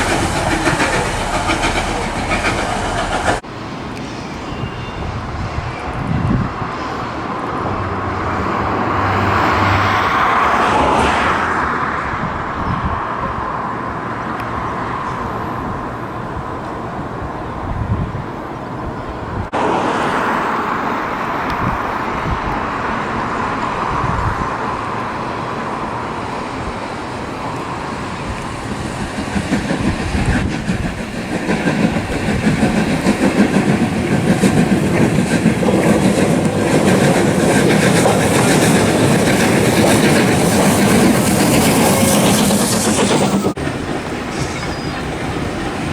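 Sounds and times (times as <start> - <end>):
train running on rails: 0.0 - 45.9.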